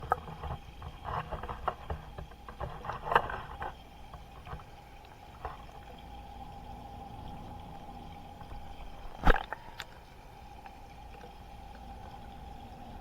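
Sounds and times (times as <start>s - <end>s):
steady hum: 0.0s - 13.0s
water splashing and gurgling: 0.0s - 13.0s.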